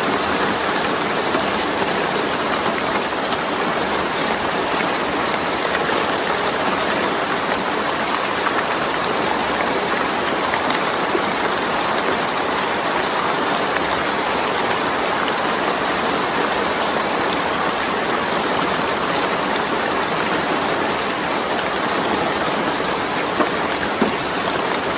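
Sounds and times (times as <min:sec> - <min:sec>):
rain on a metal roof: 0:00.0 - 0:24.9.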